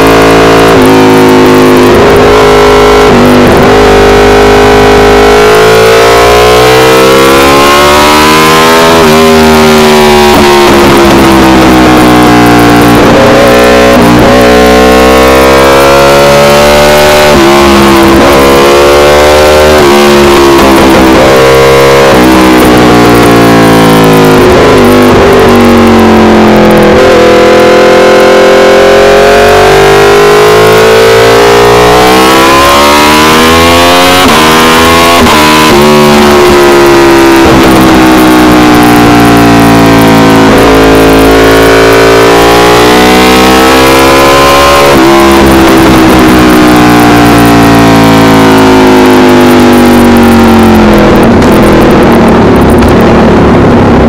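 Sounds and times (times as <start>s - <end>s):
motorcycle engine at hard throttle: 0.0s - 54.0s.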